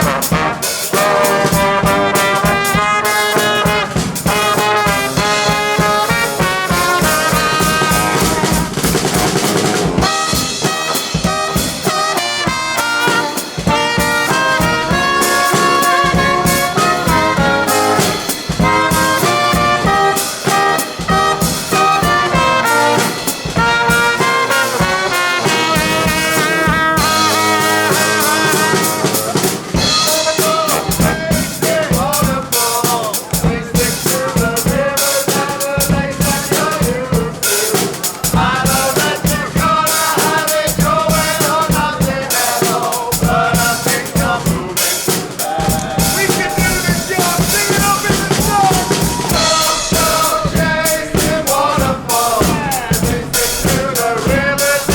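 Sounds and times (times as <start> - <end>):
drum kit beat: 0.0 - 54.9
trombone: 0.0 - 54.9
trumpet: 0.0 - 54.9.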